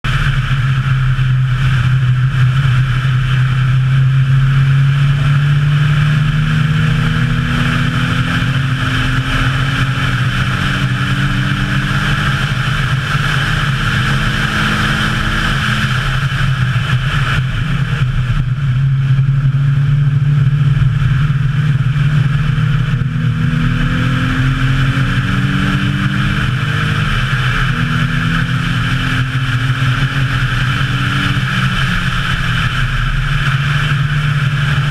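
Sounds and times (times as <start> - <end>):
car engine running hard: 0.0 - 34.9
wind and tyre noise: 0.0 - 34.9.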